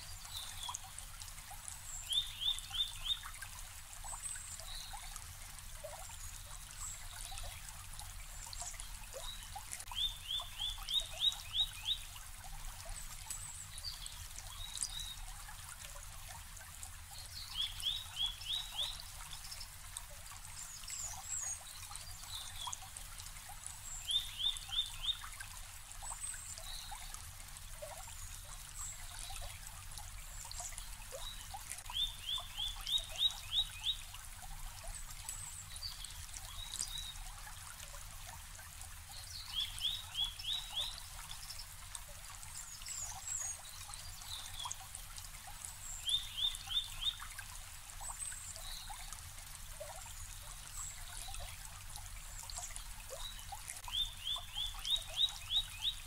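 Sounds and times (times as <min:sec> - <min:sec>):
brook babbling over stones: 0:00.0 - 0:56.0.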